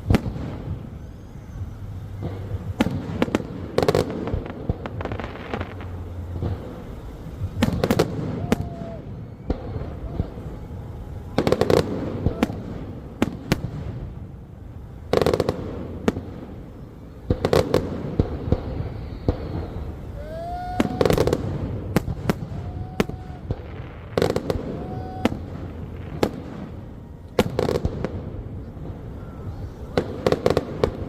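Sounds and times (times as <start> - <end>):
firework whistles: 0.0 - 31.0
fireworks crackling and popping: 0.0 - 31.0.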